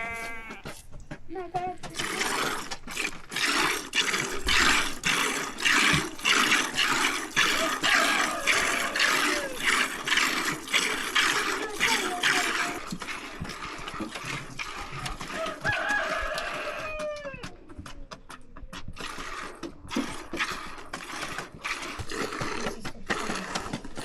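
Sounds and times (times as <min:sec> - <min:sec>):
milk squirting into a pail: 0:01.8 - 0:17.5, 0:18.8 - 0:24.0.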